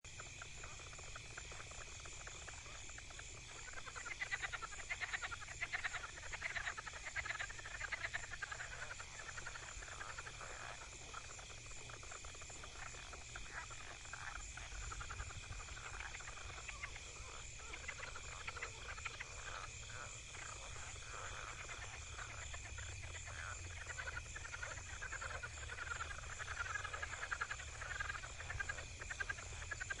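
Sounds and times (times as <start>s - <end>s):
frogs calling in trills: 0.0s - 30.0s.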